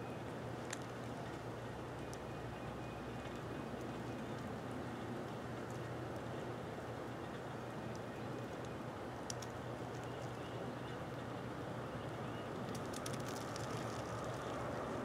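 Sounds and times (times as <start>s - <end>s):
low rumble of train: 0.0s - 12.8s, 13.9s - 15.0s.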